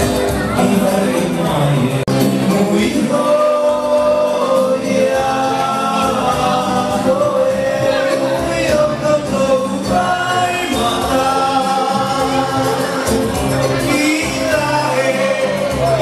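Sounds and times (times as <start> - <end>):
group singing in harmony: 0.8 - 16.0.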